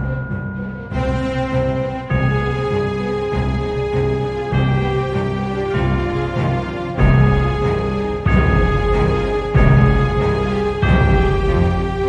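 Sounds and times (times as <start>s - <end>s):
soundtrack music with bass line: 0.0s - 12.0s.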